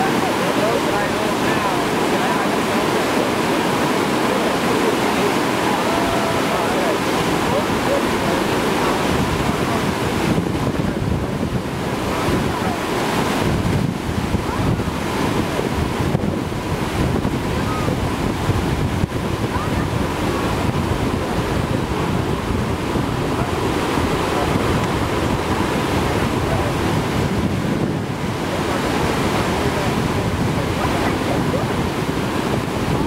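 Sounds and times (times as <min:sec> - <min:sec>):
river whitewater rushing: 0:00.0 - 0:33.0
wind buffeting microphone: 0:00.0 - 0:33.0.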